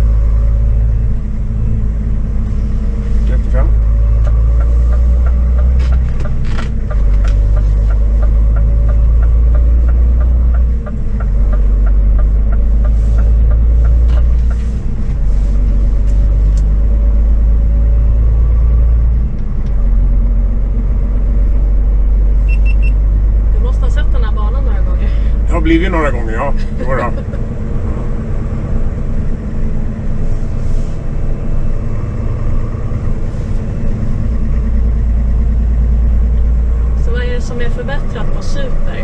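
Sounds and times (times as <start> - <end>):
truck engine and road rumble: 0.0 - 39.0.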